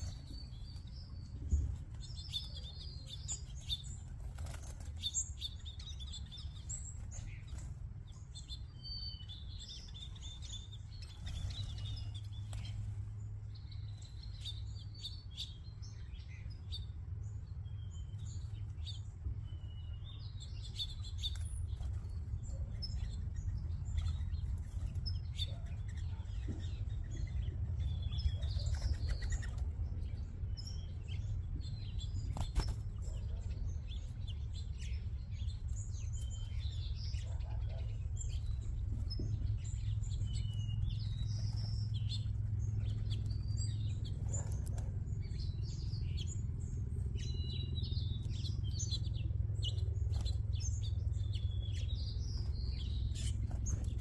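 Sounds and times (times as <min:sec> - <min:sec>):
small birds chirping: 0:00.0 - 0:54.0
steady low rumble: 0:00.0 - 0:54.0.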